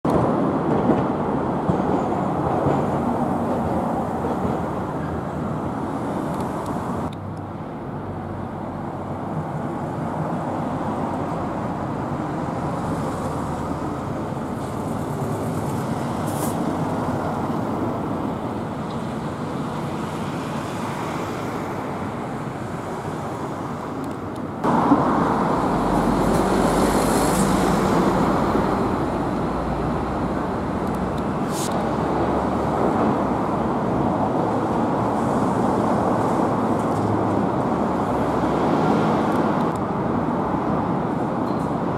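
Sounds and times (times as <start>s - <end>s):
street traffic: 0.0s - 41.9s.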